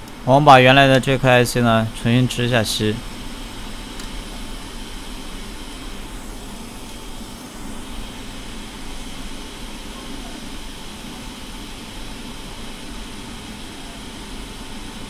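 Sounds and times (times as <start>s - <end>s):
fan rushing air: 0.0s - 15.0s.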